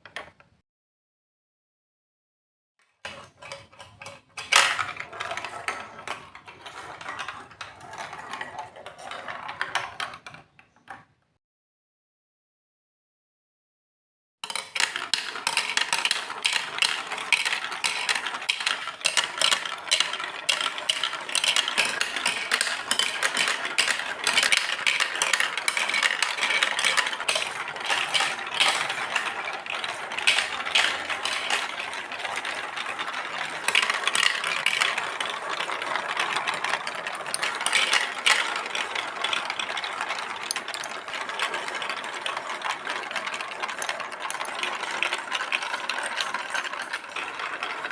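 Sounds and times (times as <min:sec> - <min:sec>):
marbles rolling down plastic track: 0:03.1 - 0:11.0, 0:14.4 - 0:47.9.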